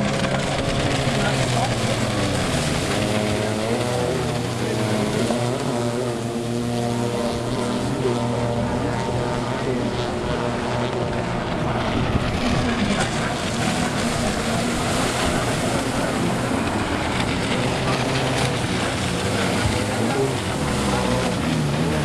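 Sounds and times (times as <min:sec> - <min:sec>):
jet ski engines droning: 0:00.0 - 0:22.0
rushing water and spray: 0:00.0 - 0:22.0.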